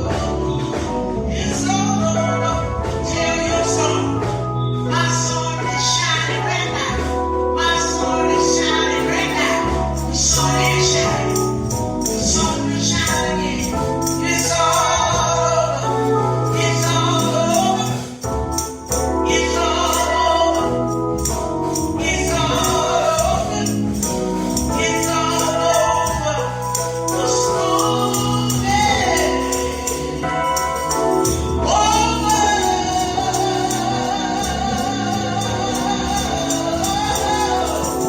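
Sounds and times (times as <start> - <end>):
band playing steady beat: 0.0 - 38.0
gospel voices singing: 0.0 - 38.0.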